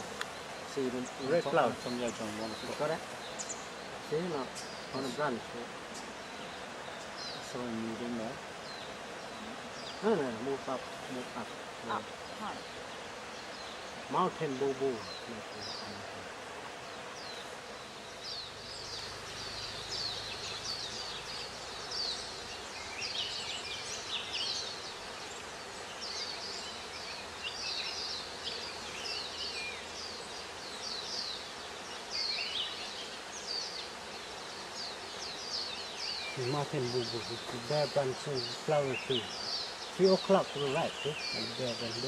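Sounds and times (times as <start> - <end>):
background hiss: 0.0 - 42.0
small birds chirping: 0.0 - 42.0.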